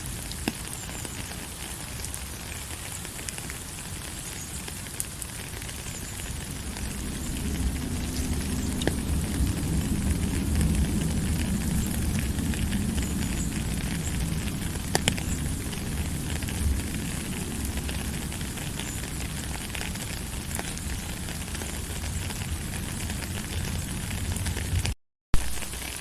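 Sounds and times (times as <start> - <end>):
steady rushing noise: 0.0 - 25.8
scattered crackles: 0.0 - 26.0.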